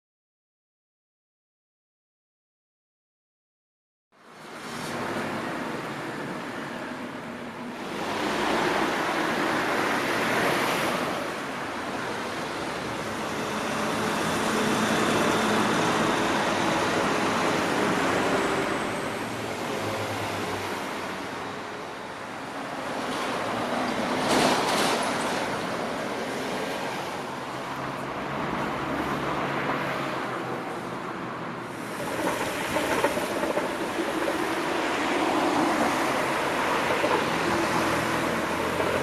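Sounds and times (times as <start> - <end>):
cars passing: 4.2 - 39.0.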